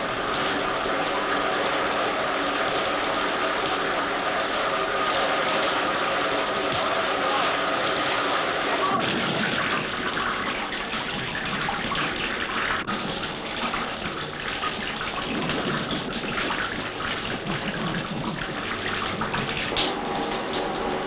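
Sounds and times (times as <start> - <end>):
heavy rain on pavement: 0.0 - 21.0.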